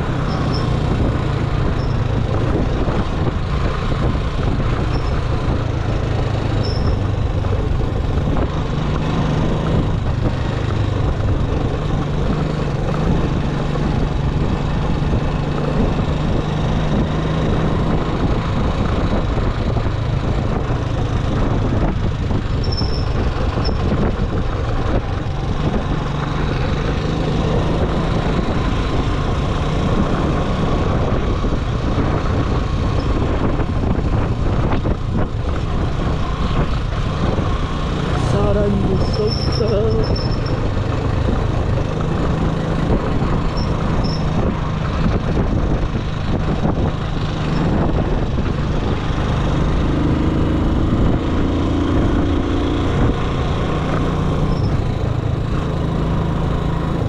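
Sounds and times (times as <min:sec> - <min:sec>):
road and wind noise: 0:00.0 - 0:57.0
vehicle engine hum: 0:00.0 - 0:57.0.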